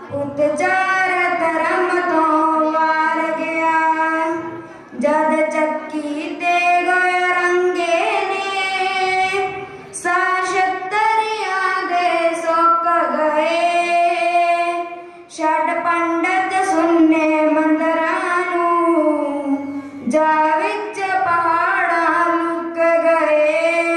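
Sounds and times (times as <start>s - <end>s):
girl singing into a microphone: 0.0s - 23.9s.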